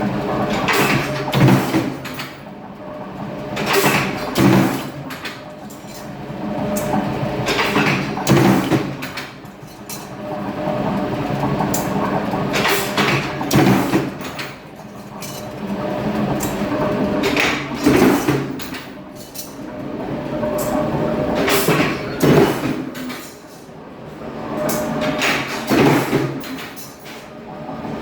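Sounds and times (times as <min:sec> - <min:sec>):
machine motor hum: 0:00.0 - 0:28.0.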